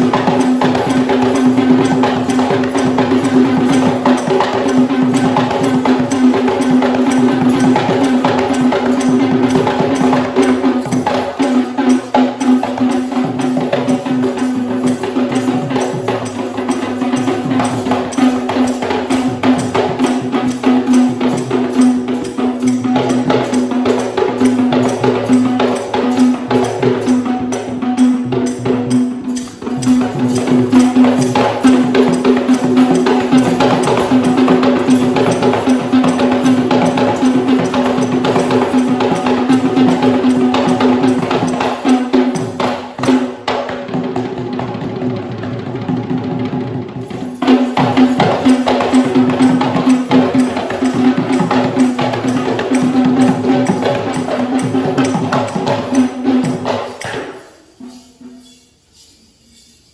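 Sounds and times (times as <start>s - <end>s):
drum ensemble playing: 0.0s - 58.7s.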